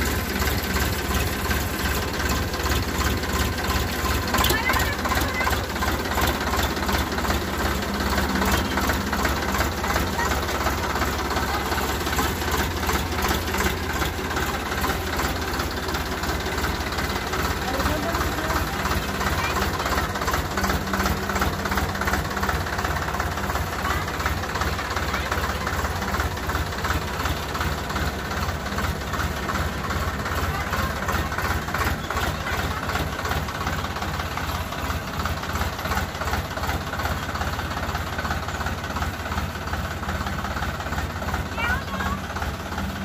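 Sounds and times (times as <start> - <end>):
diesel tractor engine clattering: 0.0 - 43.0.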